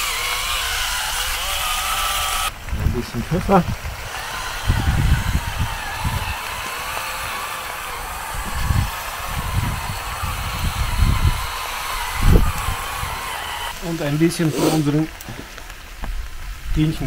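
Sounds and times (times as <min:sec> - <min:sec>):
low rumbles: 0:00.0 - 0:17.0
oil and potatoes sizzling: 0:00.0 - 0:17.0.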